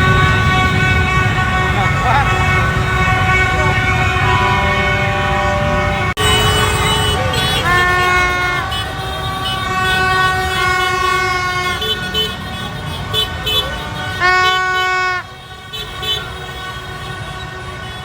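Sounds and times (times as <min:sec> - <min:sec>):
crowd noise: 0:00.0 - 0:18.0
horns blowing long toots: 0:00.0 - 0:18.0
street traffic rumble: 0:00.0 - 0:18.0.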